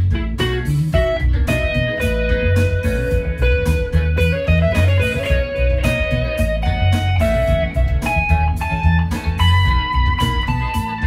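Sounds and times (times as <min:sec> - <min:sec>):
electric guitar lead line: 0:00.0 - 0:11.0
low bass pulse: 0:00.0 - 0:11.0.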